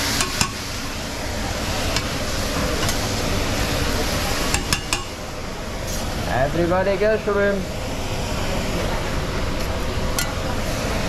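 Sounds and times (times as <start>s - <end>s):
vegetables sizzling on griddle: 0.0s - 11.0s.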